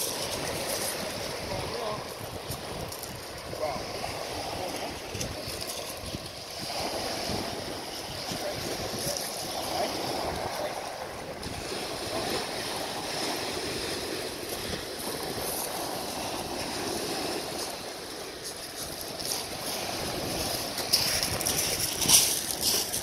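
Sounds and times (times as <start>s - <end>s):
surf washing over pebbles: 0.0s - 23.0s.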